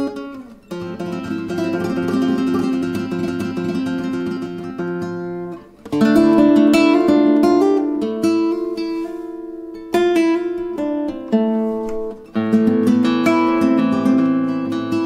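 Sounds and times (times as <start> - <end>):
flamenco guitar playing: 0.0 - 15.0.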